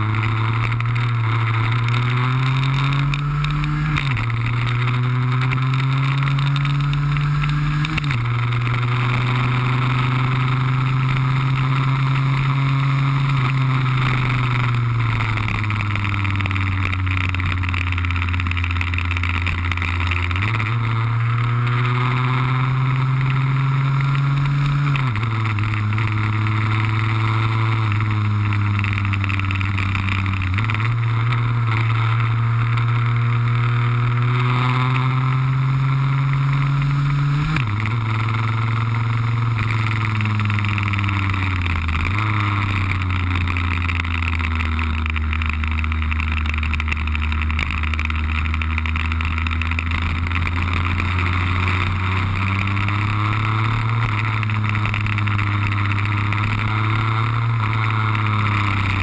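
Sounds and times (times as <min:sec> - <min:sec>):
two-stroke scooter engine revving: 0:00.0 - 0:59.0.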